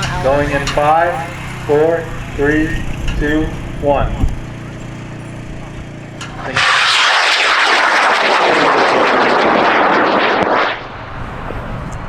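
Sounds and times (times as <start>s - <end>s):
rocket motor rushing roar: 0.0s - 12.0s.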